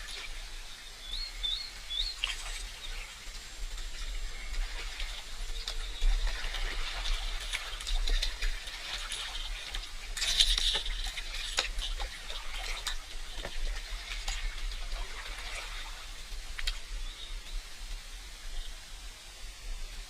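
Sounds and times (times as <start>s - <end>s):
water drips: 0.0s - 18.1s
water splashing and trickling: 0.0s - 20.0s.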